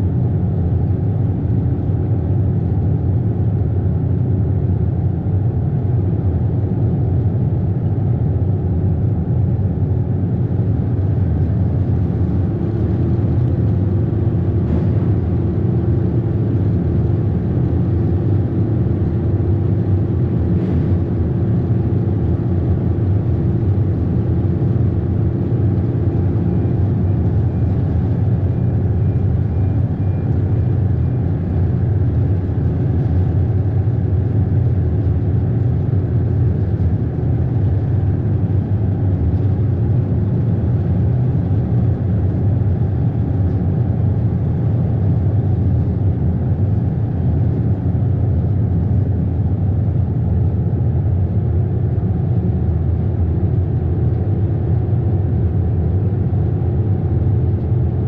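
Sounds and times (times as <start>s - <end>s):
ferry engine rumbling: 5.8s - 53.1s.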